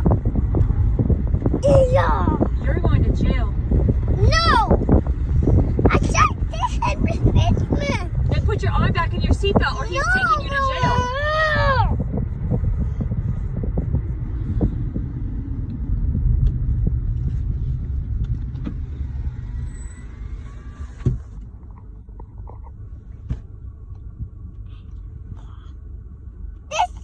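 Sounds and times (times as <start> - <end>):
car road noise: 0.0 - 27.0.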